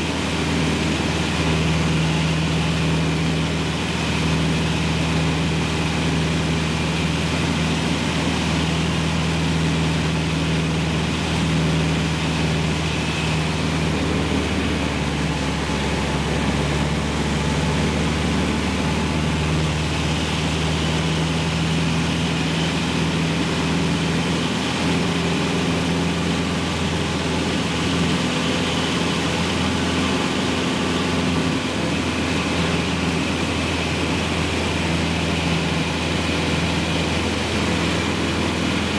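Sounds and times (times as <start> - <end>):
airplane engine droning: 0.0 - 38.9.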